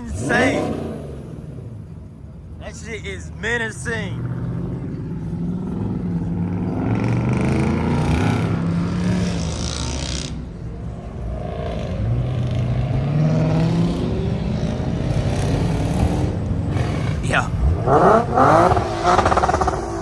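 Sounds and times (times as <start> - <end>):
car engine revving with lumpy idle: 0.0 - 20.0.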